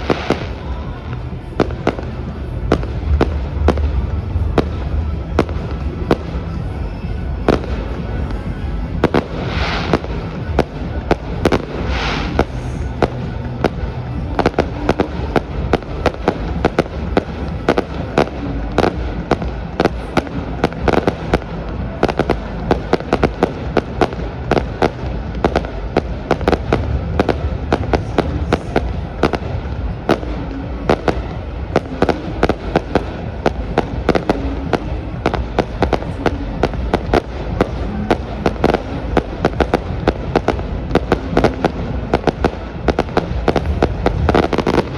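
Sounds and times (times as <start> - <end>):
fireworks bangs: 0.0 - 44.9
fireworks hissing bursts: 0.0 - 44.9
loud music: 0.0 - 44.9.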